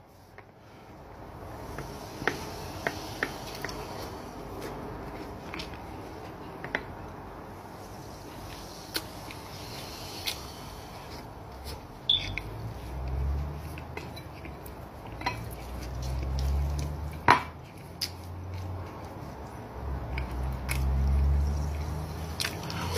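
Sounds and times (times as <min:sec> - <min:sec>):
man chewing bread: 0:00.9 - 0:07.2, 0:08.2 - 0:22.9.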